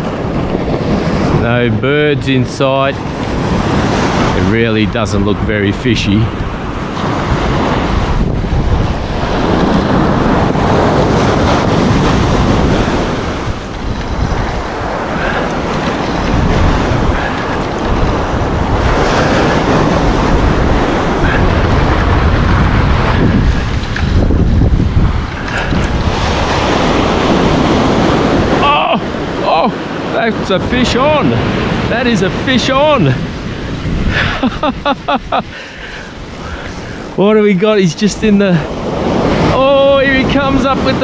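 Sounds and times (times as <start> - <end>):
surf washing onto beach: 0.0 - 41.0
wind buffeting microphone: 0.0 - 41.0.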